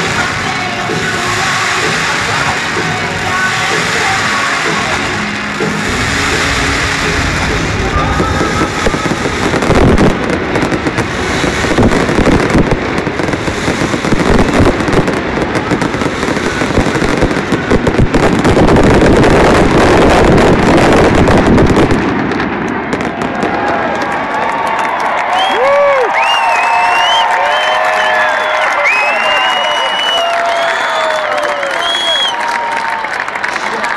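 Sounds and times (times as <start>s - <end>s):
music from stadium speakers: 0.0s - 21.4s, 25.3s - 33.9s
fireworks bursting and crackling: 0.0s - 33.9s.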